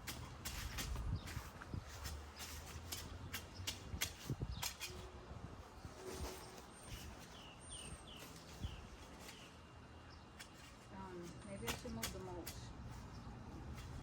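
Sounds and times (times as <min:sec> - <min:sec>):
birds chirping: 0:01.1 - 0:14.0.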